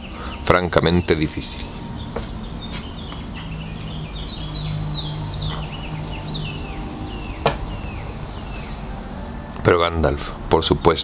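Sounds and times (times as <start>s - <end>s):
small bird chirping: 0.0s - 9.7s
low hum: 1.5s - 10.5s.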